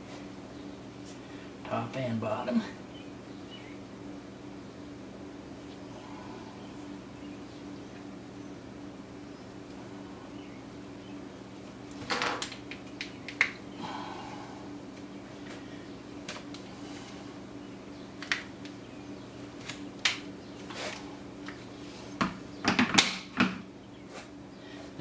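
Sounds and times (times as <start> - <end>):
low hum: 0.0 - 22.6.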